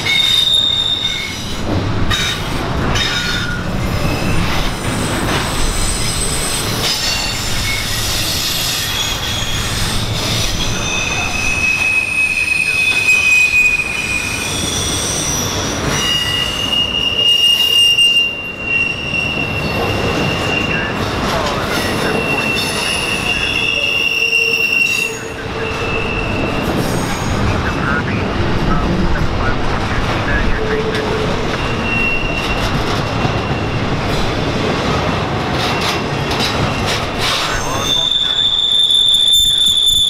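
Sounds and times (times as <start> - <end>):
train wheels squealing on rails: 0.0 - 28.0, 30.2 - 34.6, 35.6 - 40.0
train rumbling: 0.0 - 40.0.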